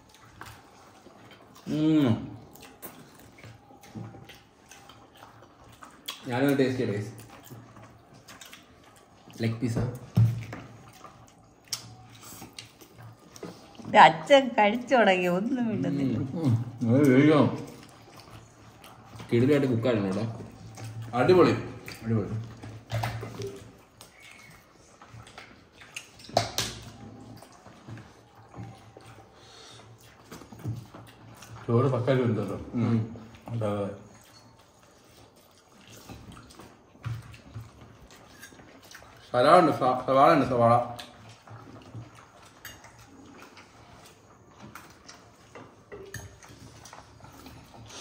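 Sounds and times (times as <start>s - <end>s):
wet chewing and lip-smacking: 0.0s - 48.0s.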